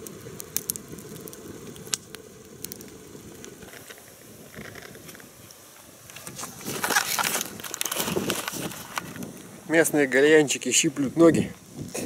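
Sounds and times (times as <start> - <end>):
campfire crackling: 0.0 - 12.0
fire popping: 0.0 - 12.0.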